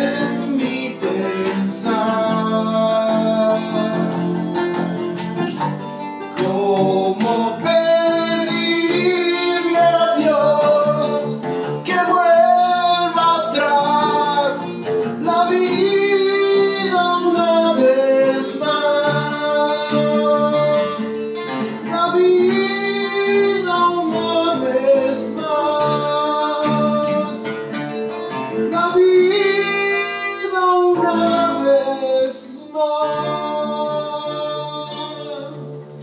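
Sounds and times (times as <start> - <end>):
man singing rock ballad: 0.0 - 4.3, 6.4 - 27.7, 28.5 - 35.8
acoustic bass guitar: 0.0 - 36.0
nylon-string acoustic guitar: 0.0 - 36.0.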